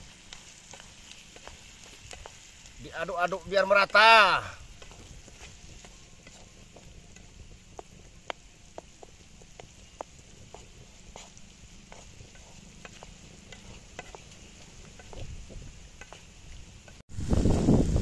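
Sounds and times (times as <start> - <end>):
sharp ticks and pops: 0.0 - 4.0, 4.6 - 17.0
wooden spatula stirring: 0.0 - 17.0
stir-fry sizzling in a wok: 0.0 - 18.0.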